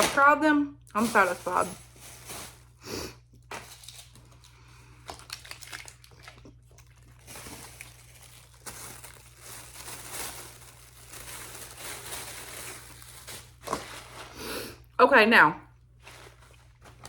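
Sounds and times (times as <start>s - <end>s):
plastic packaging crinkling: 0.9s - 14.4s, 15.9s - 17.0s.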